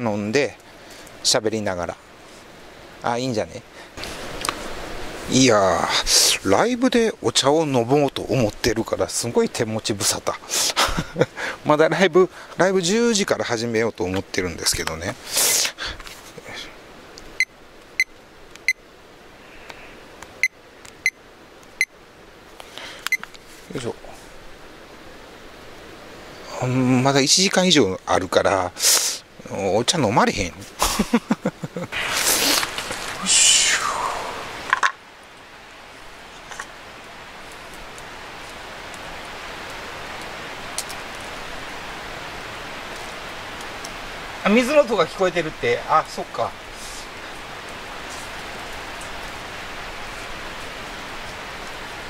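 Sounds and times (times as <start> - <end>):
stream rushing: 0.0 - 52.0.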